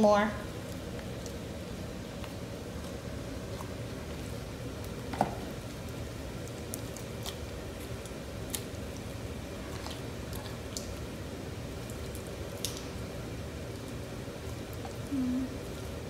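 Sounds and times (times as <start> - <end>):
hands squishing sticky slime: 2.1 - 16.0.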